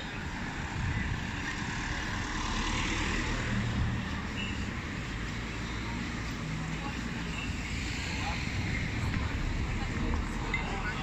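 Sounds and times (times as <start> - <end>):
city street noise: 0.0 - 11.0.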